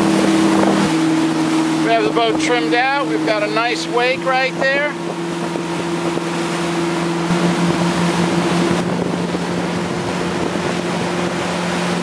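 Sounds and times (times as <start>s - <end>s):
boat engine droning: 0.0s - 12.0s
rush of wind and water: 0.0s - 12.0s.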